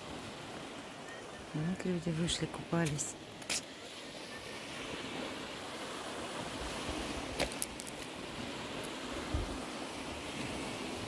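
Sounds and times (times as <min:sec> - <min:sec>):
waves washing onto pebble beach: 0:00.0 - 0:11.0.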